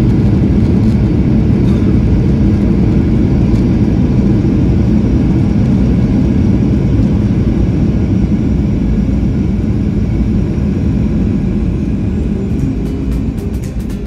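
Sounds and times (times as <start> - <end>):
airplane cabin low rumble: 0.0 - 14.0.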